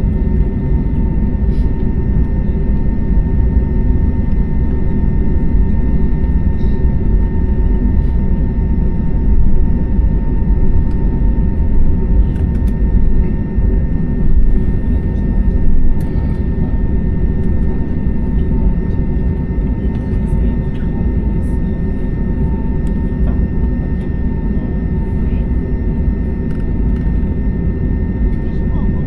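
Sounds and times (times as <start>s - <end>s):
jet engine and airflow rumble: 0.0s - 29.0s.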